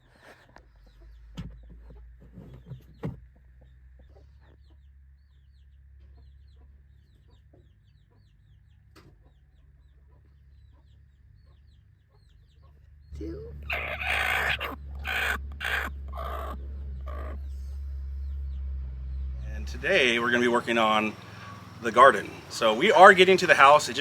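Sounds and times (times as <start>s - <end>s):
birds chirping: 0.0s - 24.0s
low steady rumble: 0.0s - 24.0s.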